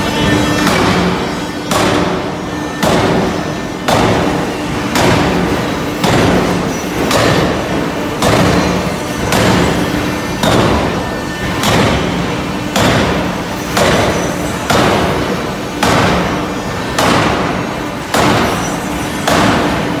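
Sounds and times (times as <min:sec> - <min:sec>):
forging dies striking metal: 0:00.0 - 0:20.0.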